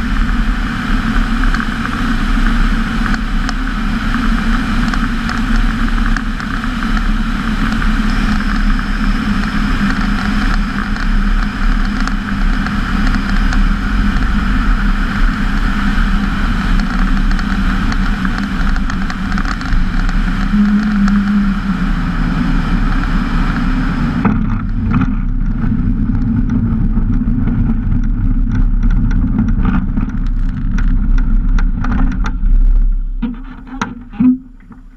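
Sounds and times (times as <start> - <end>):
microlight engine drone: 0.0 - 34.9
wheels rattling over grass: 0.0 - 34.9.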